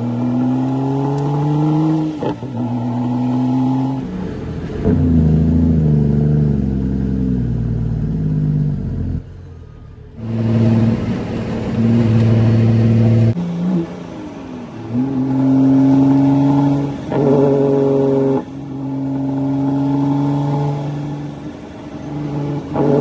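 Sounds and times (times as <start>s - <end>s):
diesel truck engine under load: 0.0s - 23.0s.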